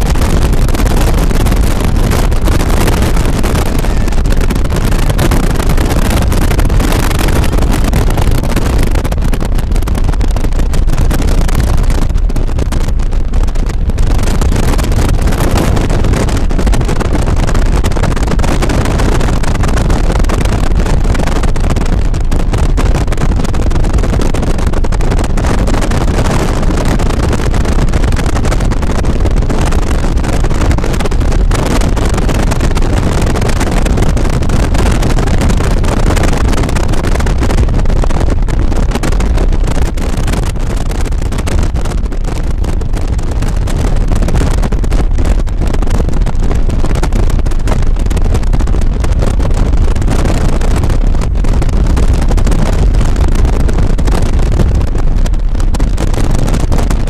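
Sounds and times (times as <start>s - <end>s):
car road and wind noise: 0.0s - 57.0s
wind buffeting microphone: 0.0s - 57.0s.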